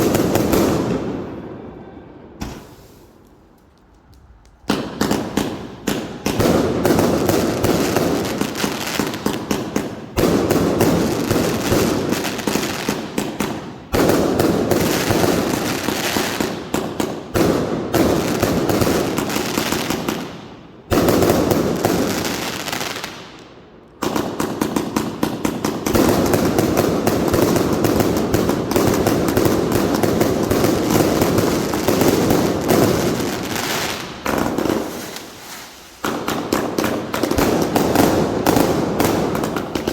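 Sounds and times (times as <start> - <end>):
fireworks banging and crackling: 0.0 - 1.7, 2.4 - 39.9.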